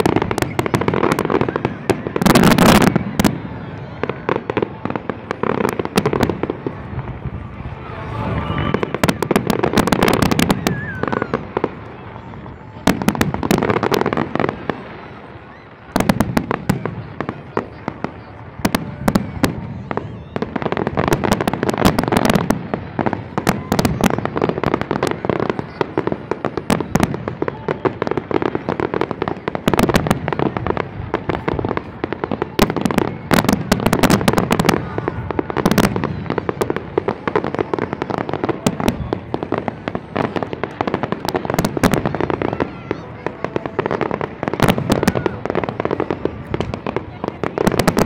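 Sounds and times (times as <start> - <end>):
firework shells bursting and crackling: 0.0 - 48.0.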